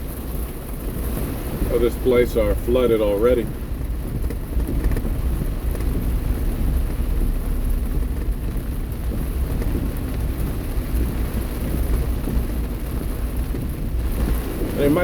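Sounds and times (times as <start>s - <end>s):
car driving over wet road: 0.0s - 15.0s
heavy rain: 0.0s - 15.0s.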